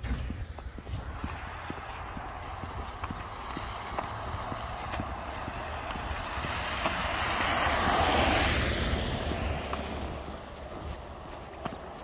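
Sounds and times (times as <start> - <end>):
tyres hissing on wet road: 1.0 - 12.0.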